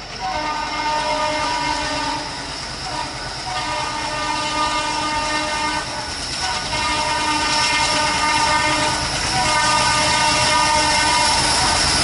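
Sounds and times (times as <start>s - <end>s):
train engine rumble: 0.0s - 12.0s
locomotive horn blasts: 0.2s - 2.3s, 2.9s - 11.5s.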